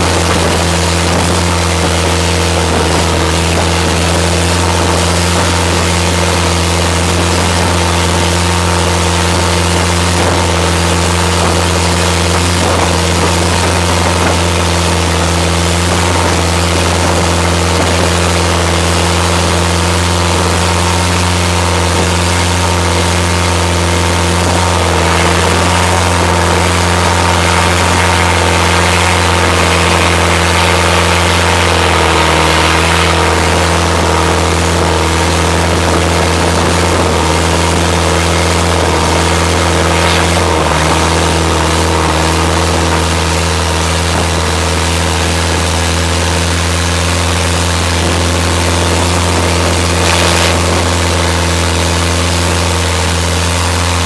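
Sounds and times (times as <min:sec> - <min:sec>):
motorboat engine droning: 0:00.0 - 0:54.0
water spray rushing: 0:00.0 - 0:54.0
wind: 0:00.0 - 0:54.0.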